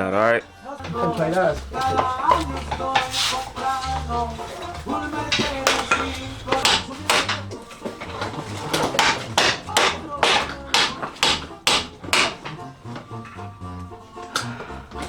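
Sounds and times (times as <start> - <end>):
music: 0.0 - 15.0
hammer striking metal: 0.8 - 13.4.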